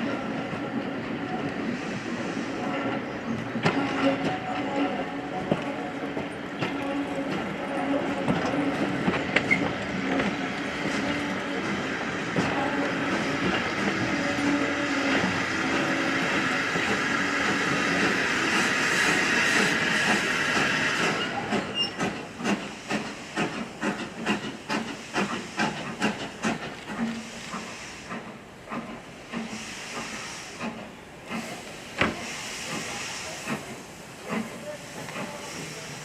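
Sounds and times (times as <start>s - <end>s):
locomotive hissing steam: 0.0s - 36.0s
steam locomotive chuffing: 0.0s - 36.0s.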